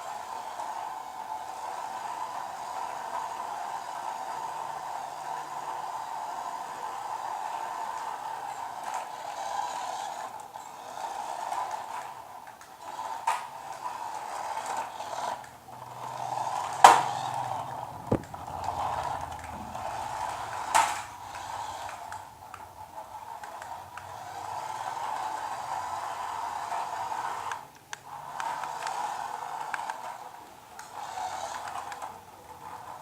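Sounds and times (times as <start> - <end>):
small electric motor whining: 0.0 - 33.0.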